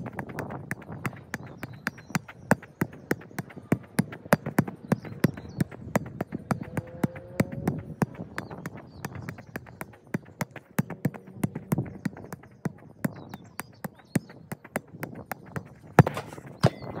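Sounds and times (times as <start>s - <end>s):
boot tapping football: 0.0s - 17.0s.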